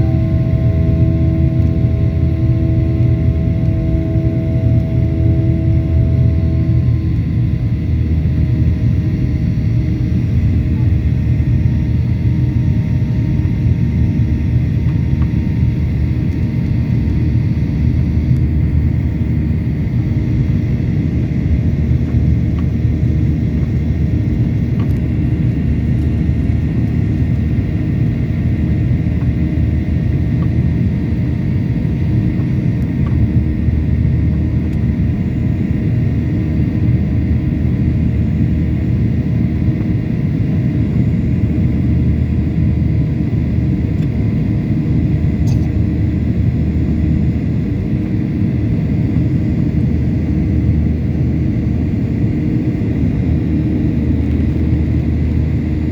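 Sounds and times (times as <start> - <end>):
jet engine whine: 0.0 - 55.9
jet engines rumbling: 0.0 - 55.9.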